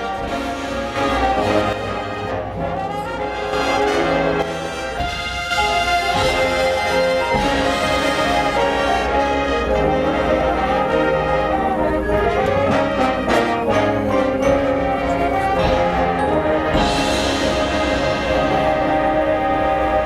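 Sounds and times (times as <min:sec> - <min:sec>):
brass band playing chords: 0:00.0 - 0:20.0.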